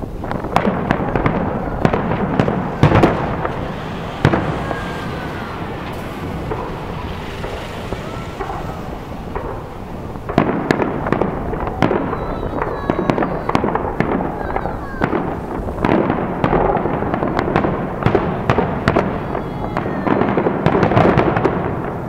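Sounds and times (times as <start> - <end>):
rumbling and crackling: 0.0 - 19.2
fireworks bangs: 0.0 - 22.0.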